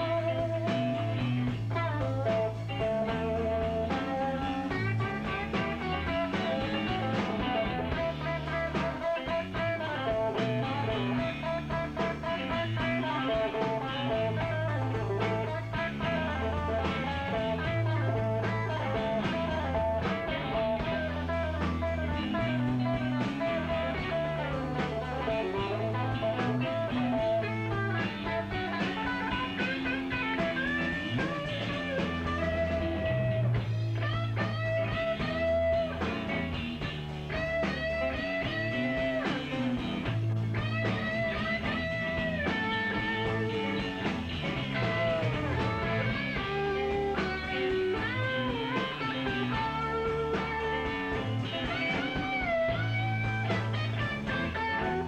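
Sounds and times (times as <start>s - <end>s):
bass guitar: 0.0s - 55.0s
drums: 0.0s - 55.0s
lead electric guitar: 0.0s - 55.0s.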